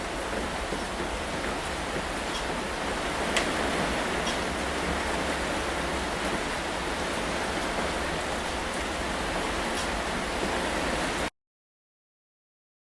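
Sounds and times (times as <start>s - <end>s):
steady rain falling: 0.0s - 11.3s.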